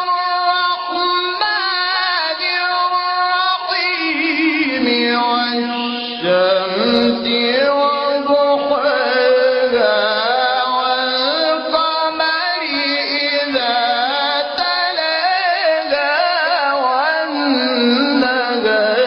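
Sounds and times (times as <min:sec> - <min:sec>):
person chanting melodically: 0:00.0 - 0:19.0.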